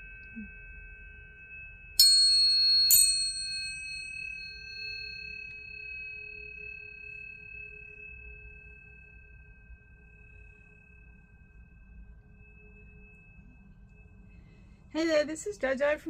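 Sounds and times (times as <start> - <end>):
tuning fork struck and ringing: 0.0 - 16.0.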